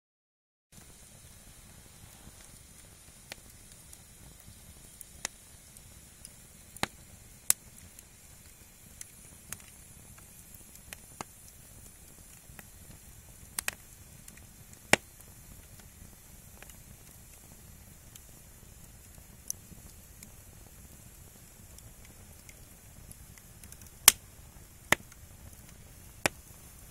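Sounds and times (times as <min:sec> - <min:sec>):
firewood crackling and popping: 0:00.8 - 0:26.9
low steady noise: 0:00.8 - 0:26.9.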